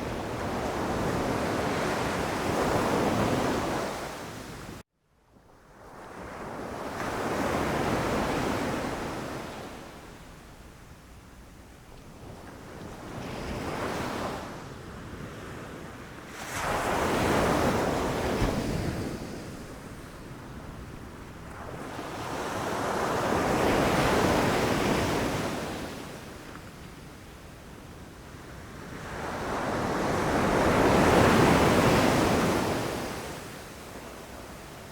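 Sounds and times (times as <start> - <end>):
ocean waves breaking on shore: 0.0 - 4.8, 5.6 - 10.2, 12.1 - 26.5, 28.3 - 34.9.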